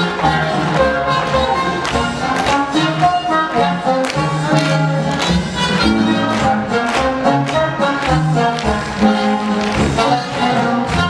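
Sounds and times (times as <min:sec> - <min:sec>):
instrumental music with strings: 0:00.0 - 0:11.0.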